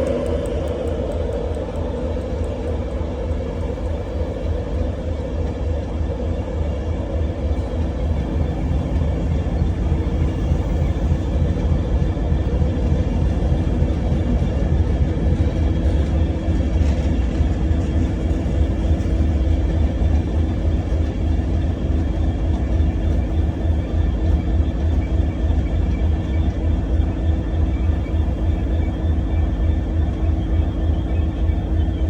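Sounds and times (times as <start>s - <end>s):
constant hum: 0.0s - 32.0s
train rumbling: 0.0s - 32.0s.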